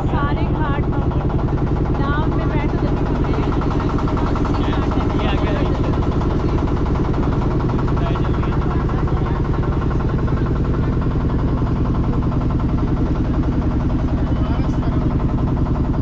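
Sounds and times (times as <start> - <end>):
boat engine chugging: 0.0 - 16.0.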